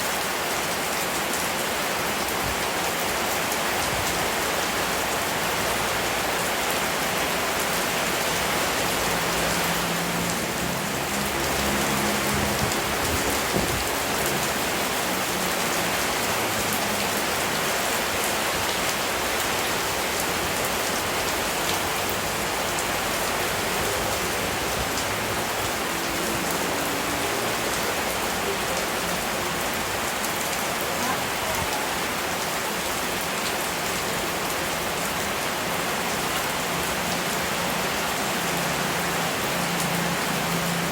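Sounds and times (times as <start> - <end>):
rain hissing: 1.6 - 40.9.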